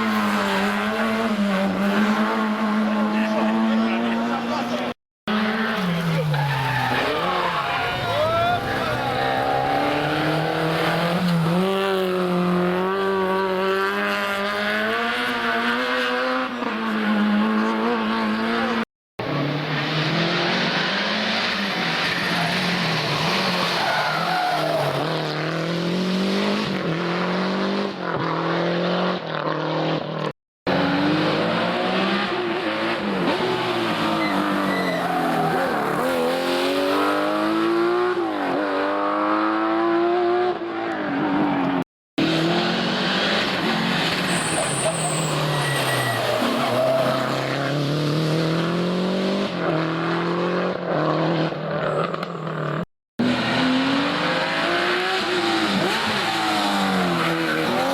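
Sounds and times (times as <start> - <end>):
rally car engines revving: 0.0 - 57.9.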